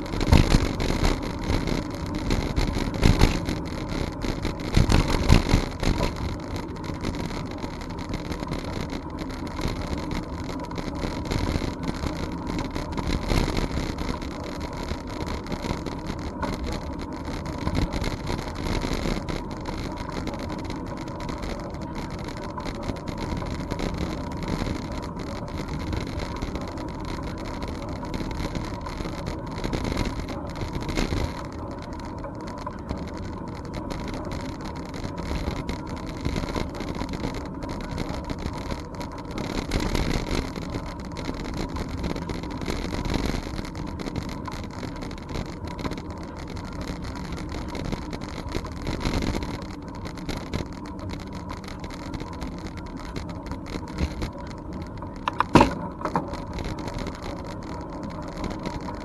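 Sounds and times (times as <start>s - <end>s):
bicycle rumbling on trail: 0.0s - 59.0s
bike rattles and knocks: 0.0s - 59.0s.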